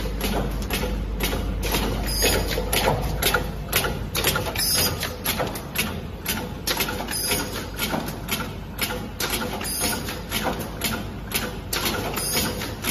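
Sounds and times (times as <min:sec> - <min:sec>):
low machine hum: 0:00.0 - 0:12.9.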